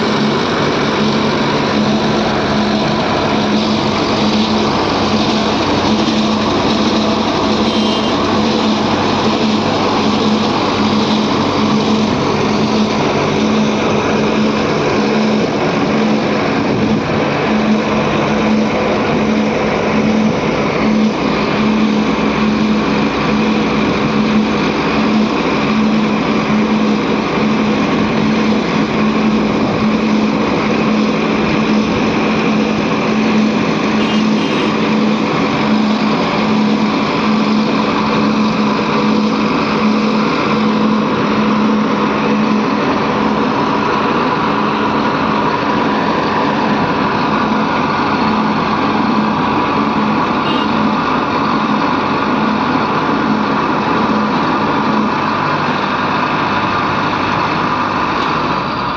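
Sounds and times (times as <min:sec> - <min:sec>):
heavy diesel engine drone: 0:00.0 - 0:58.9.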